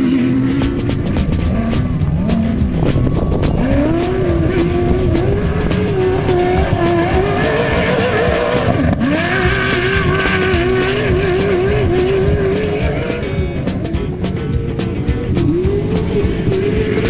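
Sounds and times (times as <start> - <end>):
race vehicle engine revving: 0.0 - 17.0.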